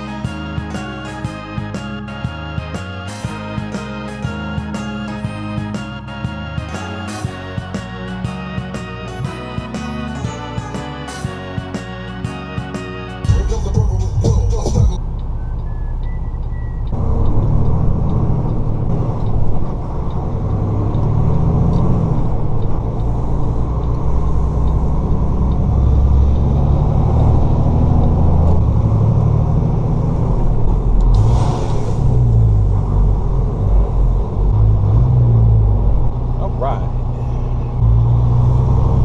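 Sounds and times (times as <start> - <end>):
road noise: 0.0 - 39.0
truck diesel engine drone: 0.0 - 39.0.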